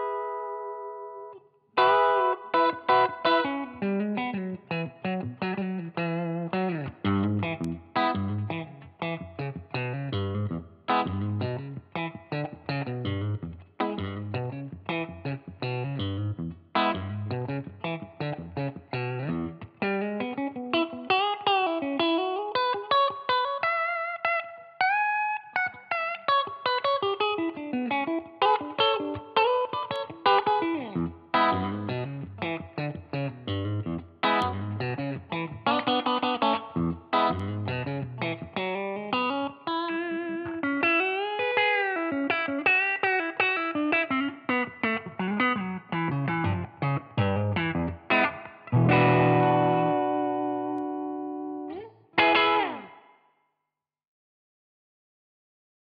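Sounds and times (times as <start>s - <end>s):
electric guitar lead lines: 0.0s - 53.2s.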